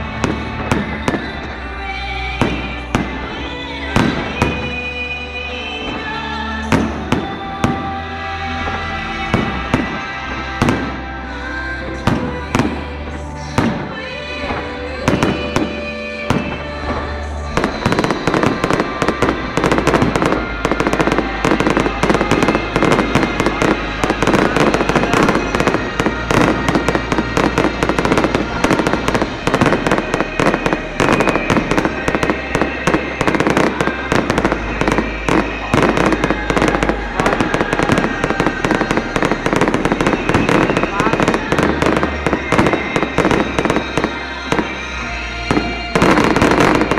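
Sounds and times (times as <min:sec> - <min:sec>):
fireworks bangs and crackling: 0:00.0 - 0:46.9
music playing: 0:00.0 - 0:46.9.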